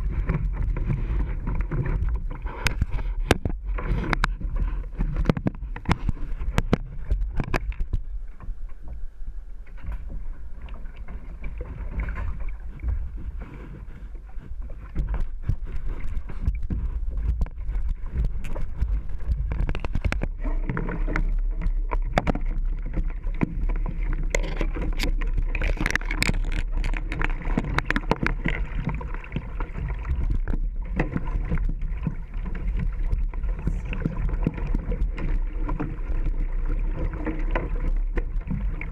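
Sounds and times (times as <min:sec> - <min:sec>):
paddle splashes and hull knocks: 0:00.0 - 0:38.9.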